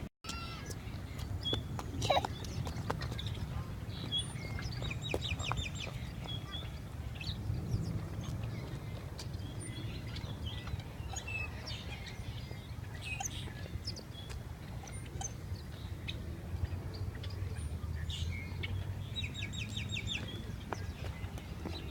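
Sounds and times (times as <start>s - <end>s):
birds chirping: 0.3s - 21.9s
steady low rumble: 0.8s - 21.9s.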